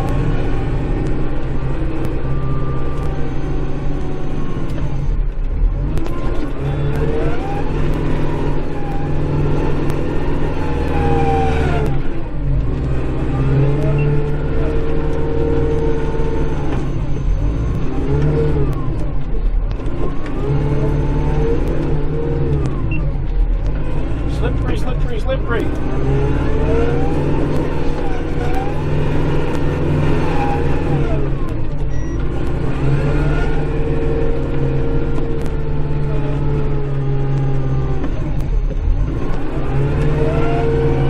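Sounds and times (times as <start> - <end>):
drivetrain whine: 0.0 - 41.0
tractor diesel engine under load: 0.0 - 41.0.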